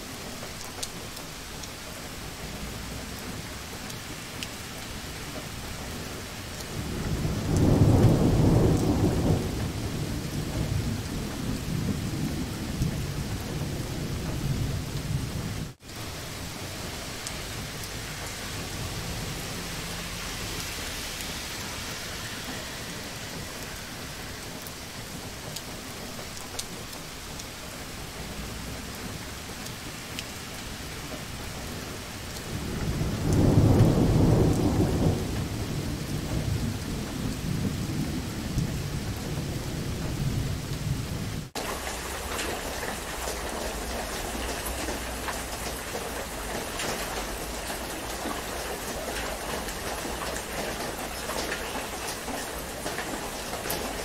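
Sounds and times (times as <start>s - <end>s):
heavy rain: 0.0s - 54.0s
thunder rolling: 5.7s - 26.3s, 30.8s - 54.0s.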